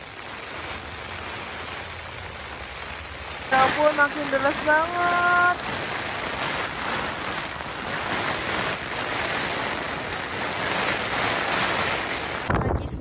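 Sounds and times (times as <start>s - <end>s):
heavy rain on a tent: 0.0s - 13.0s.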